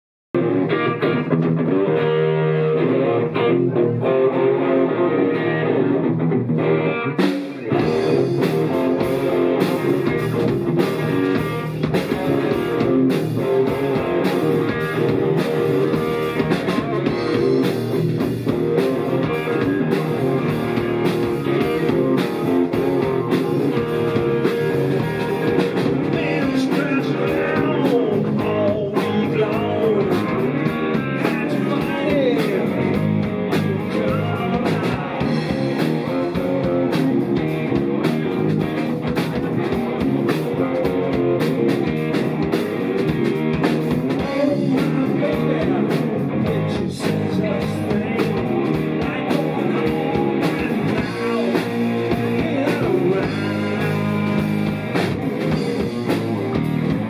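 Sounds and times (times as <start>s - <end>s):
drums and bass: 0.3s - 57.0s
electric guitar: 0.4s - 57.0s
live rock band playing: 0.4s - 57.0s.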